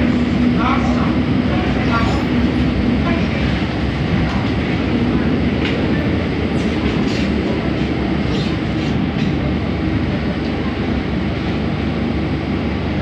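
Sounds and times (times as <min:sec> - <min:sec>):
monorail train rumble: 0:00.0 - 0:13.0.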